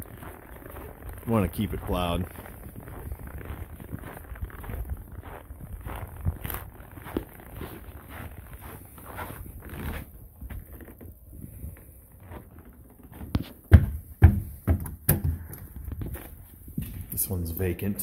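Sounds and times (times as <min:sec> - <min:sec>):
footsteps on wooden deck: 0:00.0 - 0:17.2.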